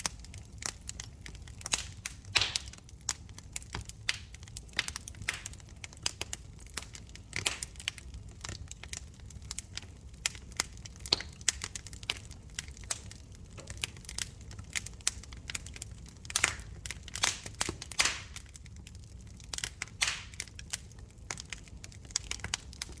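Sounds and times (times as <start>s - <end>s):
fire crackling in a fireplace: 0.0s - 23.0s.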